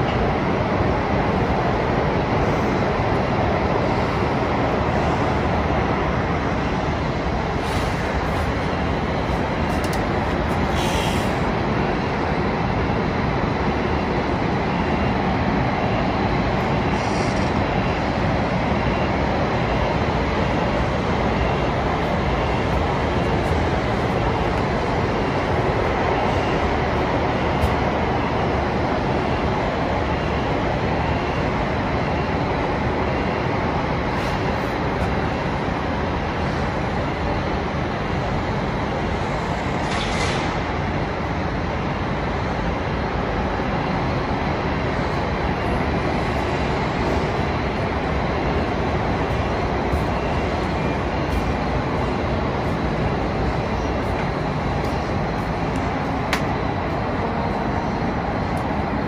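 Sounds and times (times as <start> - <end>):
city background rumble and hiss: 0.0 - 59.0.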